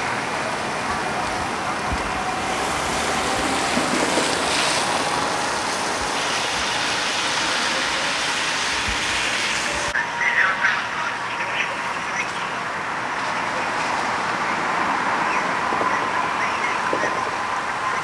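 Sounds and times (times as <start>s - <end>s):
train wheels rumbling on rail: 0.0s - 10.0s, 12.1s - 18.0s.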